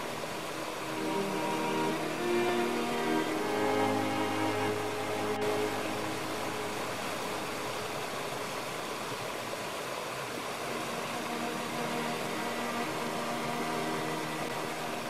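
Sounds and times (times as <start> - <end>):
soft music: 0.0 - 9.1, 10.6 - 15.0
water rushing over rocks: 0.0 - 15.0.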